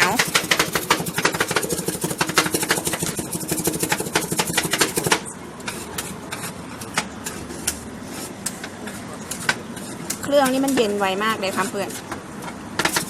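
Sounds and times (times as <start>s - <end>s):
metal spatulas chopping on plate: 0.0s - 7.8s, 8.5s - 12.1s, 12.8s - 13.0s.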